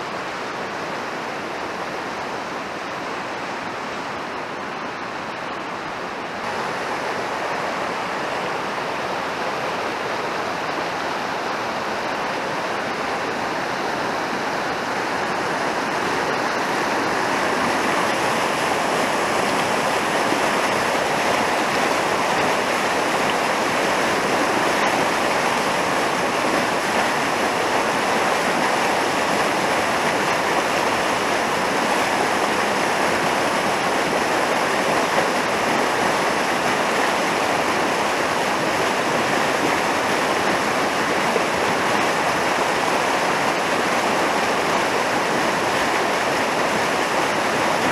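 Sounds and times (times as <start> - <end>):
river rushing over rocks: 0.0 - 47.9.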